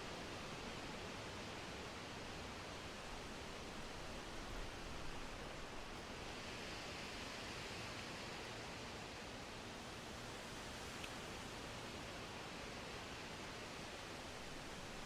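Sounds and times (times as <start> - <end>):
steady wind: 0.0 - 15.0.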